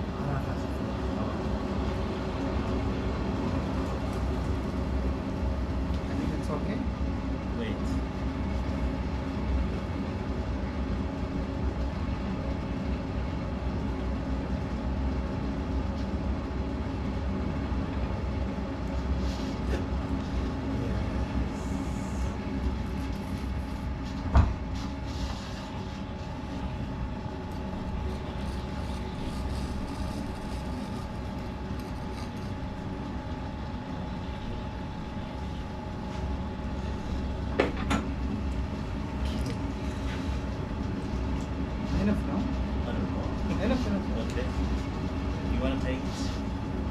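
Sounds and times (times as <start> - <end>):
potter's wheel humming: 0.0 - 46.9.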